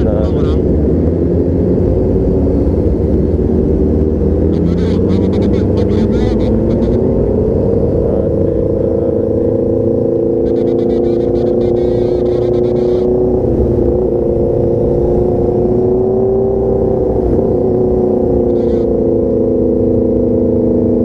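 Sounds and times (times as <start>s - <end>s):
motorcycle engine cruising: 0.0s - 21.0s.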